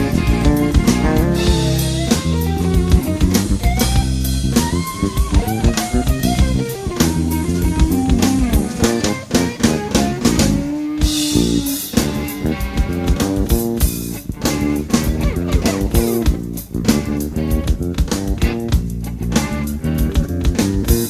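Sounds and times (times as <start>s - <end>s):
busy drum kit: 0.0s - 21.0s
electric bass melodic lines: 0.0s - 21.0s.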